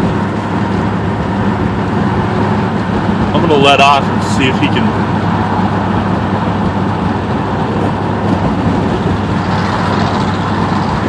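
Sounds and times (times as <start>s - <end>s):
exhaust leak rasping rush: 0.0s - 11.0s
road noise: 0.0s - 11.0s.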